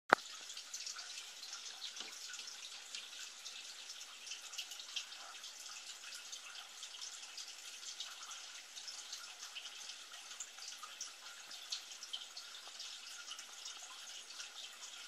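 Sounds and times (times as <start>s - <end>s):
water trickling: 0.1s - 15.0s.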